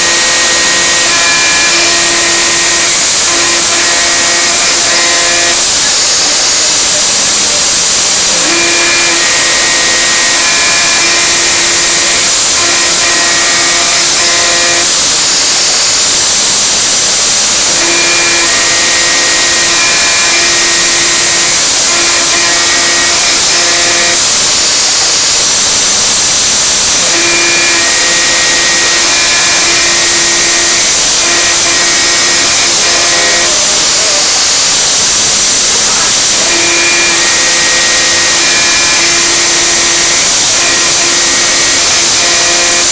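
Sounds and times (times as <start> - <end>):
pitched metal cutting tone: 0.0 - 42.9
router spindle hissing: 0.0 - 42.9.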